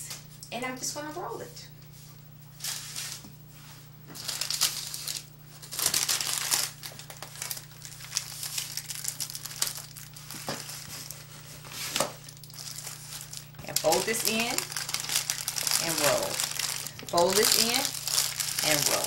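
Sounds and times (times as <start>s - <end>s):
wax paper crinkling: 2.5s - 19.0s.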